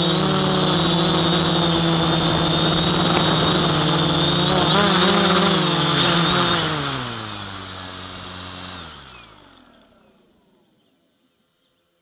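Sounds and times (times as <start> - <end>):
drone motors winding down: 0.0 - 10.7.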